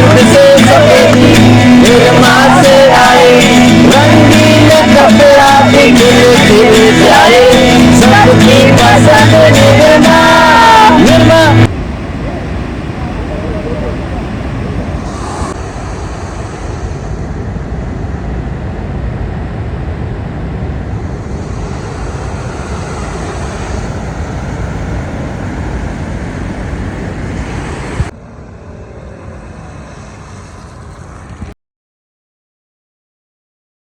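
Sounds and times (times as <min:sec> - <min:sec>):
dense rushing noise: 0:00.0 - 0:31.6.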